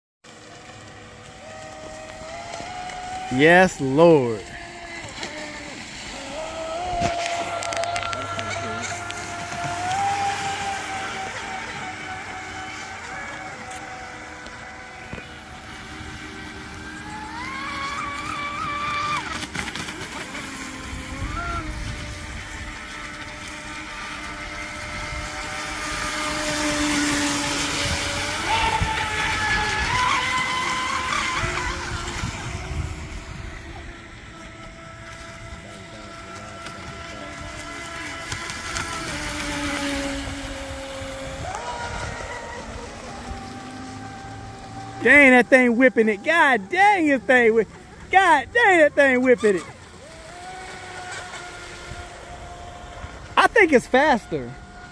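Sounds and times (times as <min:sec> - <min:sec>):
electric motors whining: 0:00.3 - 0:54.9.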